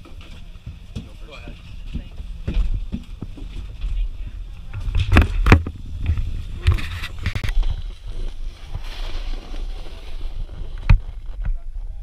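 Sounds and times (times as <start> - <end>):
knocks and scrapes: 0.0 - 11.6
wind rumble on microphone: 1.6 - 12.0.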